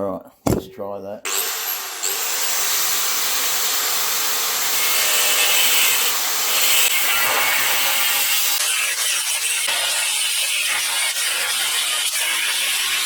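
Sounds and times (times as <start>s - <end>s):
angle grinder cutting steel: 1.3s - 13.0s.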